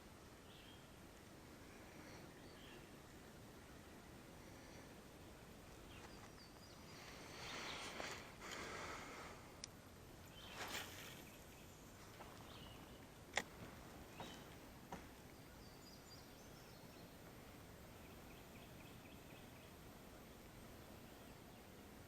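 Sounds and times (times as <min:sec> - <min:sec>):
faint outdoor background hiss: 0:00.0 - 0:22.0.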